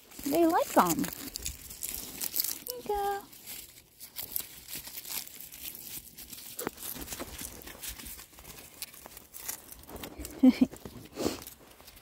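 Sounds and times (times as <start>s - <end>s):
goats crunching dried plants: 0.0s - 12.0s.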